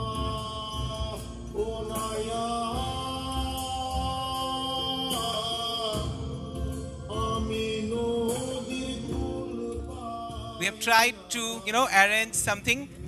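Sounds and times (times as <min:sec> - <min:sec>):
low musical accompaniment: 0:00.0 - 0:13.0.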